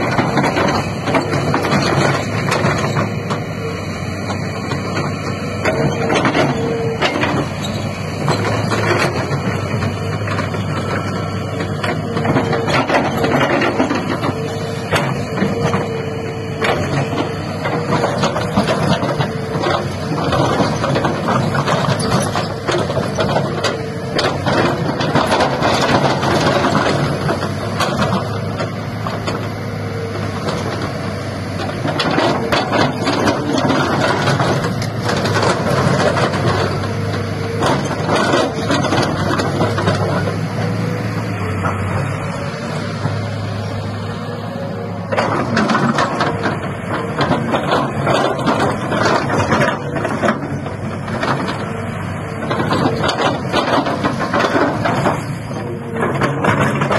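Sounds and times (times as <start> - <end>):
excavator diesel engine humming: 0.0 - 56.9.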